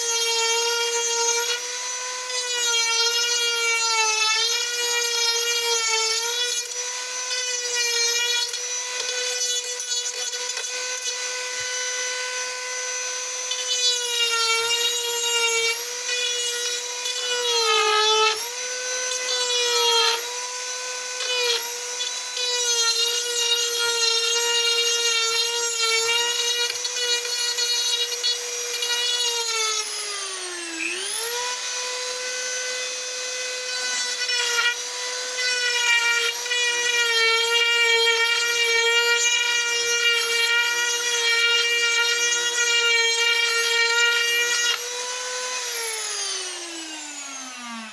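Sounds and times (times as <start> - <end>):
rotary carving tool whining: 0.0 - 47.9.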